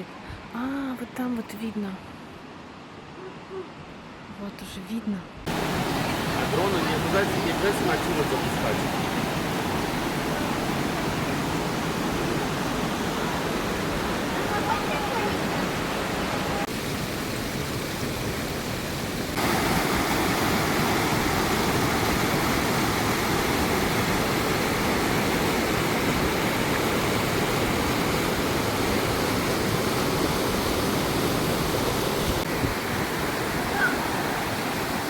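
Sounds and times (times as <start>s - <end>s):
waterfall rushing: 5.5s - 35.0s.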